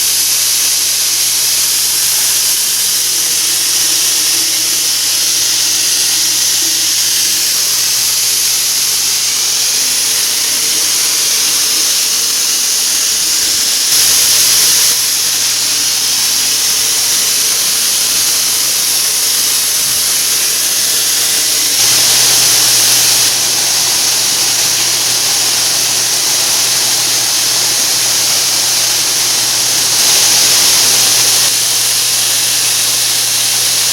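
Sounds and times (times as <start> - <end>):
shower water spraying: 0.0 - 33.9.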